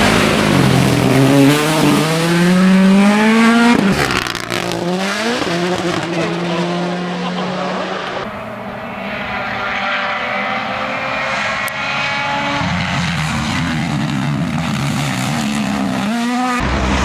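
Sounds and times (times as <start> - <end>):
rally car engine at full throttle: 0.0 - 17.0.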